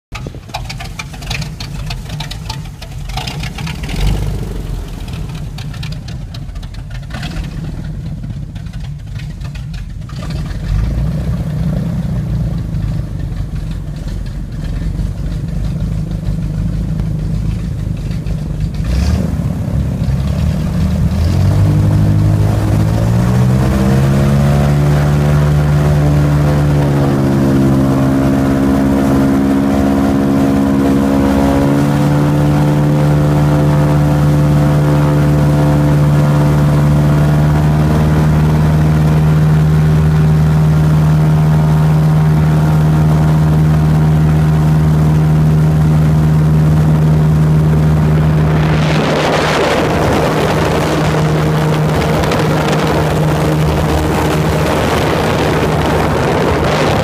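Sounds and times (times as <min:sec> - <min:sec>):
airboat engine and propeller: 0:00.1 - 0:57.0.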